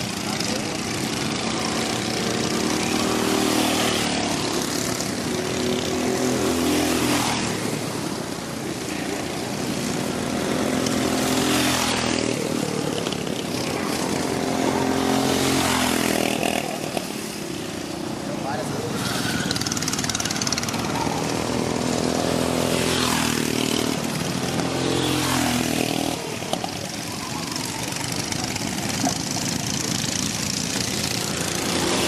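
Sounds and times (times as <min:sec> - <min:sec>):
racing kart engines passing: 0:00.0 - 0:32.0.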